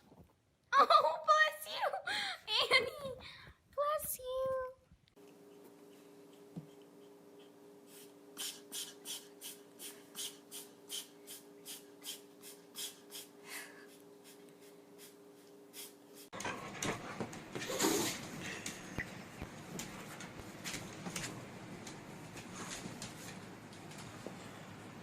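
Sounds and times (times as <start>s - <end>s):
electrical hum: 0.8s - 25.0s.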